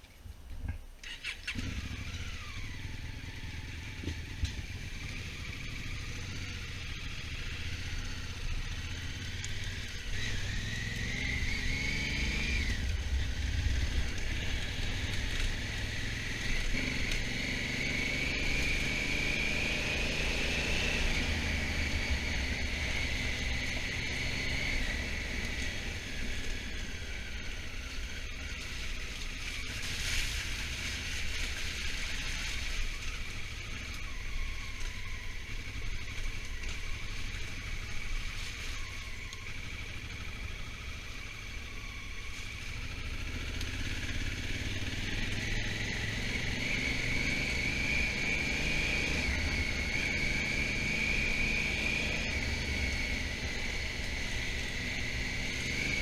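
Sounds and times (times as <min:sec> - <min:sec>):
motorcycle engine rumble: 0:00.0 - 0:56.0.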